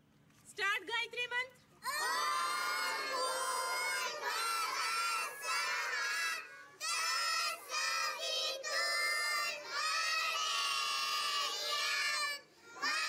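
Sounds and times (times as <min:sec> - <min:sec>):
girls singing in unison: 0:01.9 - 0:13.0.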